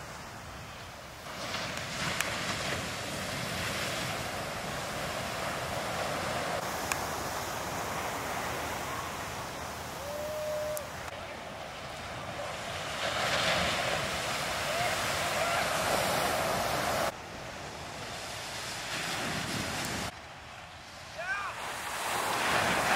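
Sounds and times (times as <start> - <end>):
waves breaking: 0.0 - 22.9.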